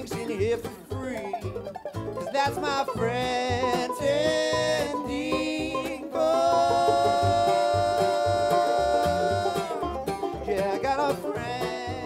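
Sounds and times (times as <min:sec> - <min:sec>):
person singing: 0:00.0 - 0:01.6, 0:02.2 - 0:12.0
mandolin and banjo: 0:00.0 - 0:12.0.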